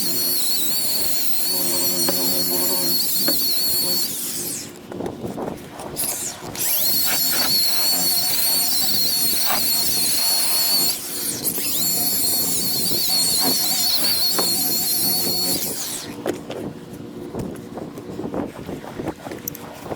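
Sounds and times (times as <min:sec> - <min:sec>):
electric buffer whining: 0:00.0 - 0:04.9, 0:05.8 - 0:18.0.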